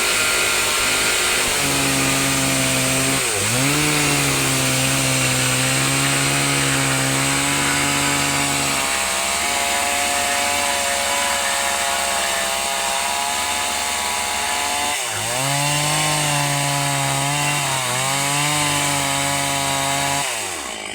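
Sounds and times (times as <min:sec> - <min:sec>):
chainsaw cutting log: 0:00.0 - 0:20.9.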